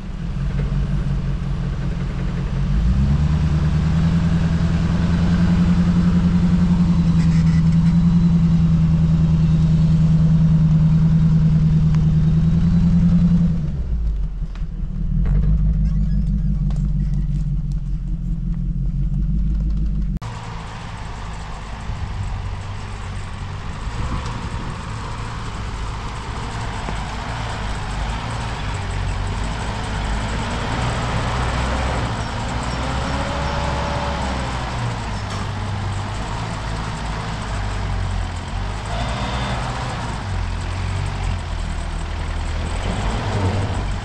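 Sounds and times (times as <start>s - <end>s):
engine running low: 0.0s - 44.0s.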